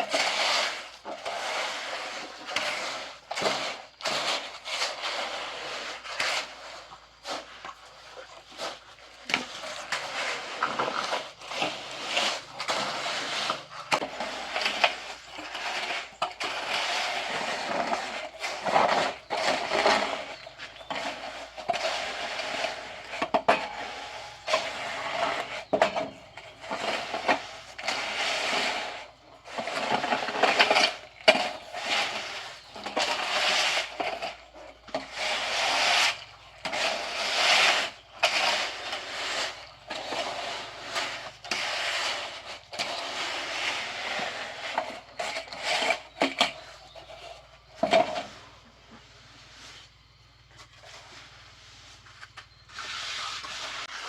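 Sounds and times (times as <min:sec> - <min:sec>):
trowel scraping wet concrete: 0:00.0 - 0:54.0.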